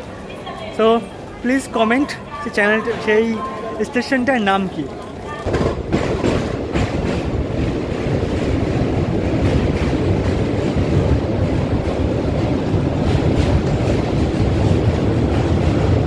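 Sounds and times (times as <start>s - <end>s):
train wheels rumbling and rattling: 0.0s - 16.0s.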